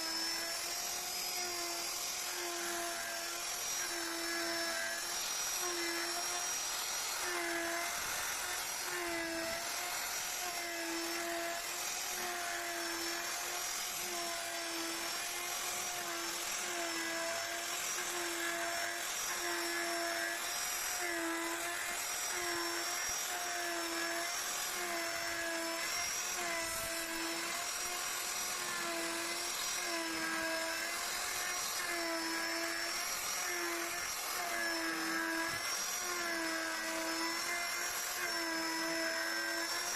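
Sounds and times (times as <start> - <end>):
power tool whining carving wood: 0.0 - 39.9.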